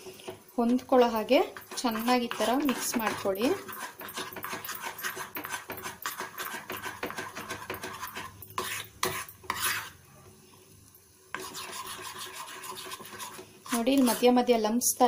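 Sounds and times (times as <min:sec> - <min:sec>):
spoon stirring thick chocolate: 0:00.0 - 0:10.0, 0:11.3 - 0:14.5.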